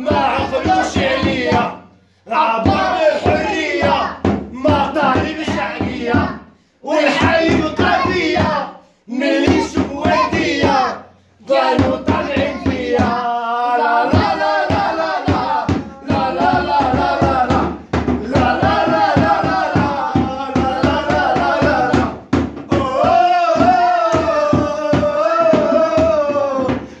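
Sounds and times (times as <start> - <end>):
voices singing a chant: 0.0 - 27.0.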